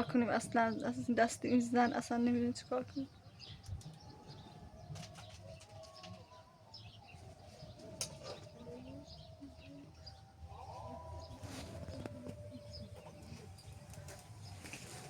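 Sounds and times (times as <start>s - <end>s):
bird cooing: 0.0s - 15.0s
faint bird chirps: 0.0s - 15.0s.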